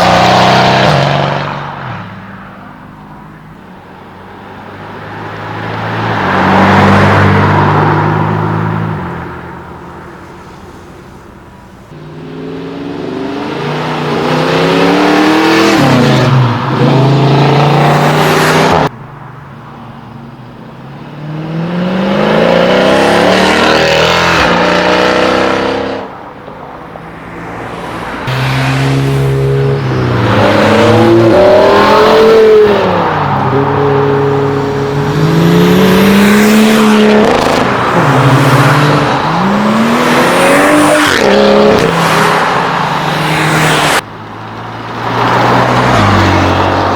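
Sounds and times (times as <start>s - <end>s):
cars accelerating hard: 0.0s - 2.0s, 5.0s - 9.6s, 11.9s - 18.9s, 21.0s - 26.2s, 26.8s - 46.9s.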